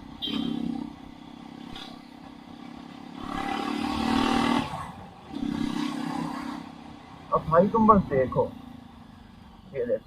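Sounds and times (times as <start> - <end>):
motorcycle engine and exhaust: 0.0 - 10.0.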